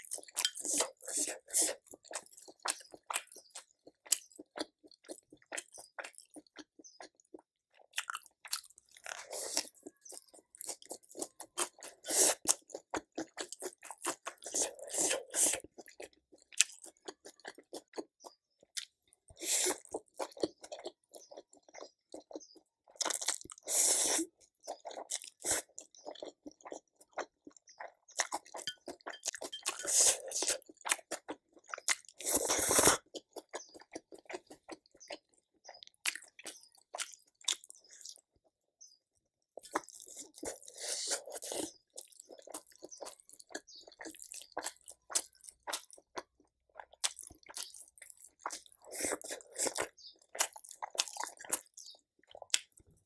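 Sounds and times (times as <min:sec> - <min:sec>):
person chewing and crunching food: 0:00.0 - 0:53.0.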